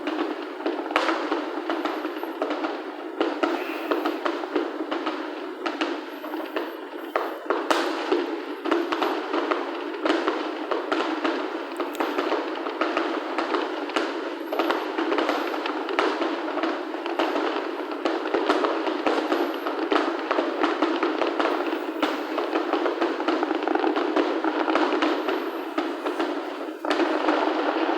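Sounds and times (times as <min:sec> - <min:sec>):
fireworks bangs and crackles: 0:00.0 - 0:27.9.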